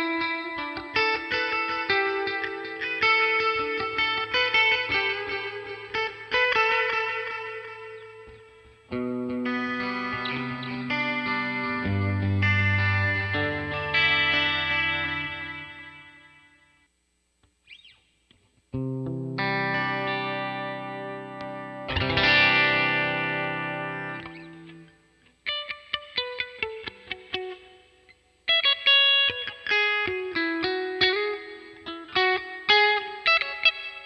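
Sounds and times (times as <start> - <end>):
electric guitar chords and notes: 0.0 - 16.8, 17.6 - 34.0.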